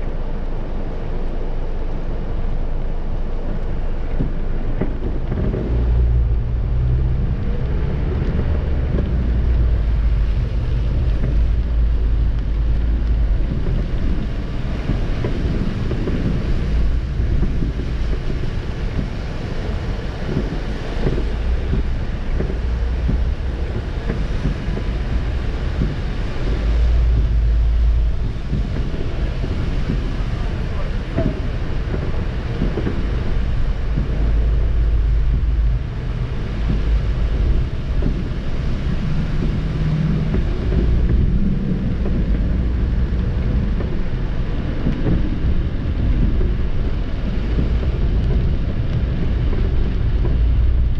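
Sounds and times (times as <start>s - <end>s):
car engine and wet tyres rumbling: 0.0s - 50.9s
rain on windscreen: 0.0s - 50.9s.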